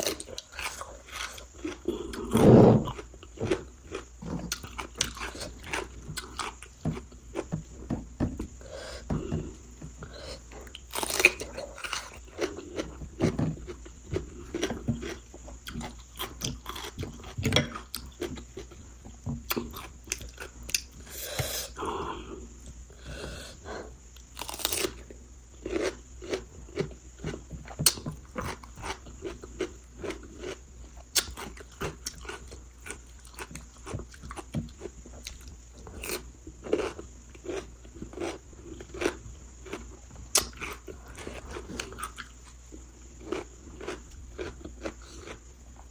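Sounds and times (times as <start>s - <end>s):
chewing and crunching: 0.0s - 22.2s, 24.1s - 45.9s.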